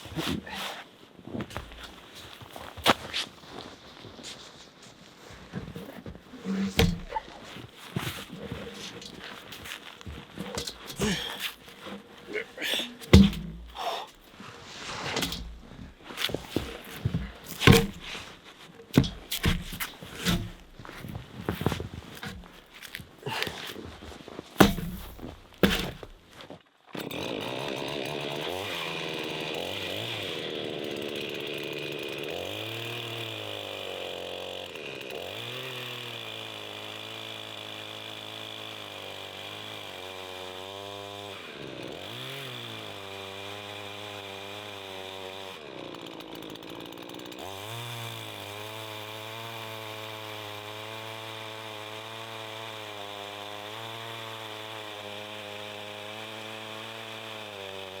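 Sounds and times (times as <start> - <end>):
chainsaw engine running: 6.4 - 58.0.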